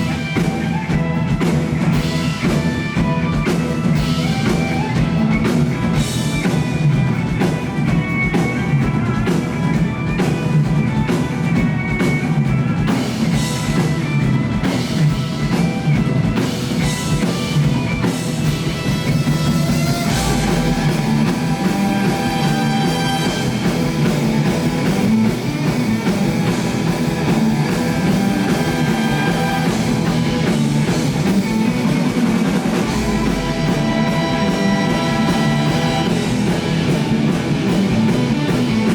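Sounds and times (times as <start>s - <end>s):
drum kit: 0.0s - 38.9s
guitars: 0.0s - 38.9s
rock band playing live: 0.0s - 38.9s.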